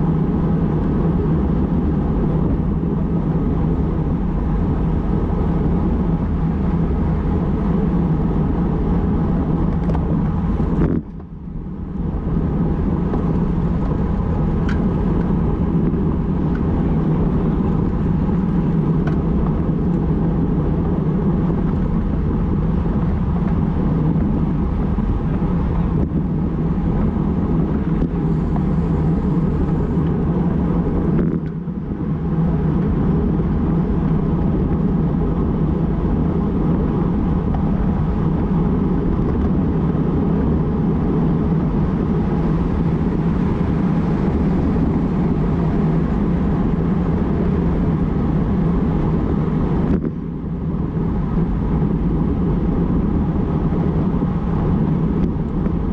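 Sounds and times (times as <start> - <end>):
bicycle road noise: 0.0 - 55.9
wind rushing on microphone: 0.0 - 55.9.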